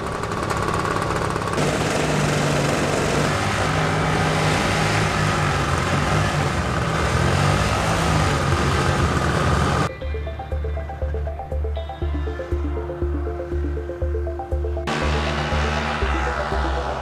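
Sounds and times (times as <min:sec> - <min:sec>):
model propeller engines droning: 0:00.0 - 0:09.9, 0:10.9 - 0:17.0.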